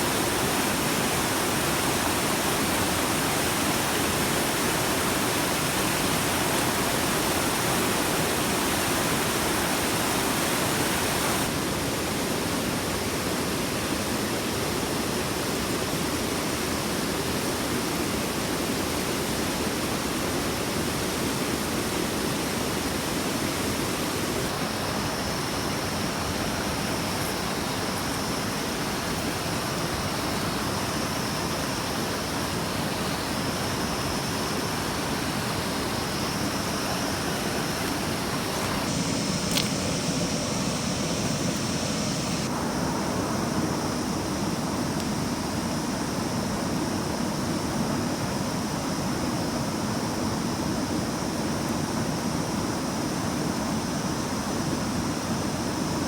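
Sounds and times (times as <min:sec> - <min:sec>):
rushing water: 0:00.0 - 0:56.0.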